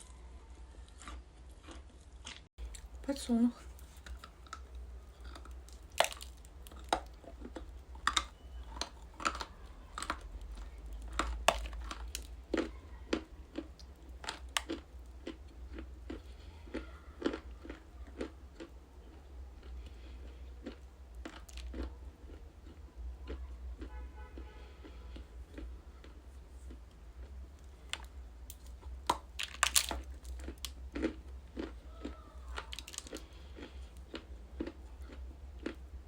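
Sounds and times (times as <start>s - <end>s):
crunchy chewing: 0.0s - 3.0s, 3.6s - 36.0s.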